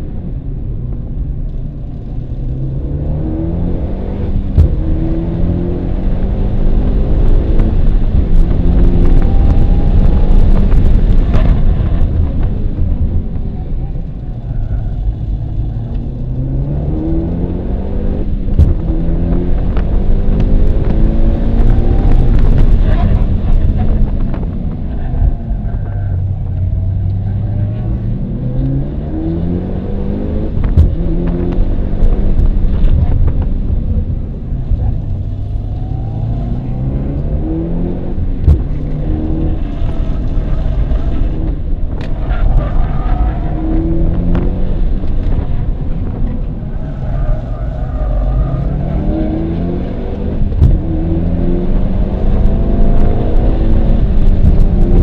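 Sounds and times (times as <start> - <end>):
car engine accelerating hard: 0.0 - 55.0
road and tyre noise: 0.0 - 55.0.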